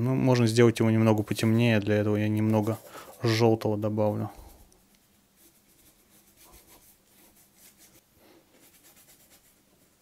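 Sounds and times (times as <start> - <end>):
paintbrush scrubbing on cardboard: 0.9 - 10.0.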